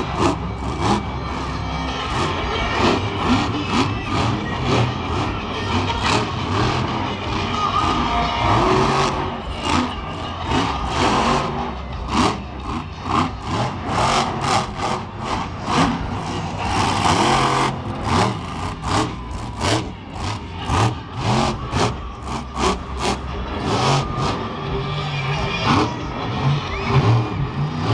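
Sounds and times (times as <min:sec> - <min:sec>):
truck engine revving: 0:00.0 - 0:27.9.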